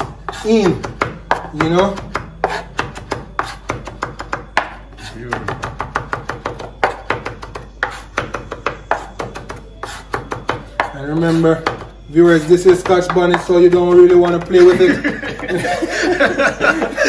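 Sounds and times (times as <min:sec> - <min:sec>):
knife chopping on board: 0:00.0 - 0:14.8.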